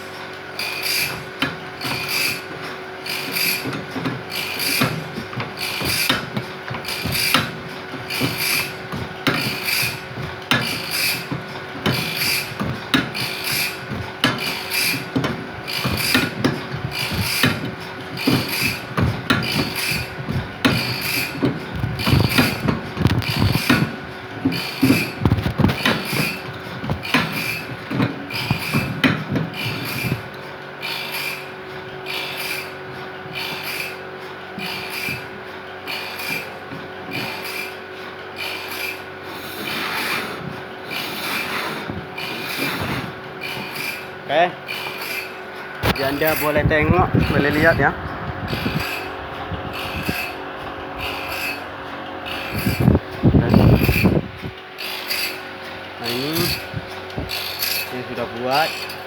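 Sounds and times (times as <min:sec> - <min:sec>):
hand file rasping on metal: 0:01.8 - 0:02.5, 0:03.1 - 0:23.9, 0:24.5 - 0:31.5, 0:32.1 - 0:34.0, 0:34.6 - 0:35.3, 0:35.9 - 0:37.8, 0:38.4 - 0:46.6, 0:48.5 - 0:51.7, 0:52.3 - 0:53.0, 0:54.8 - 0:59.0.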